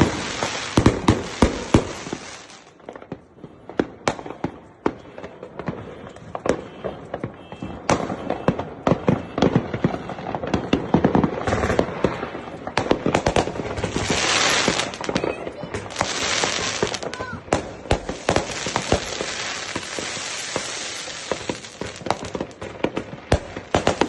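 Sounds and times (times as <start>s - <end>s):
firecrackers cracking and popping: 0.0s - 24.0s.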